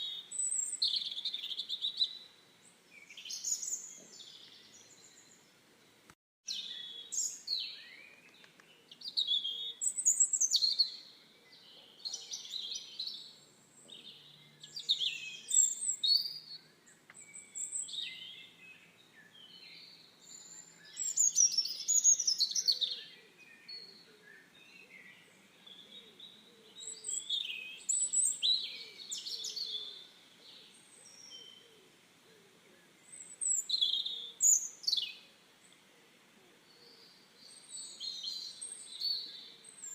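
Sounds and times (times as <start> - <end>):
birdsong chirping and warbling: 0.0 - 39.9.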